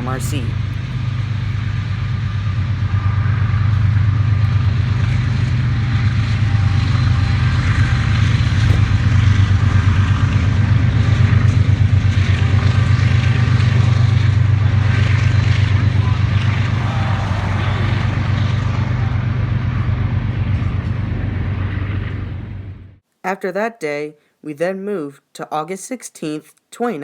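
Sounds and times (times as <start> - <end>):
diesel freight train passing: 0.0 - 23.0
locomotive engine low drone: 0.0 - 23.0.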